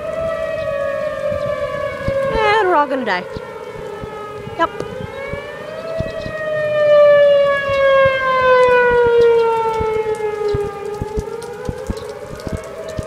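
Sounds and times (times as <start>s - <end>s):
warning siren wailing: 0.0s - 13.0s.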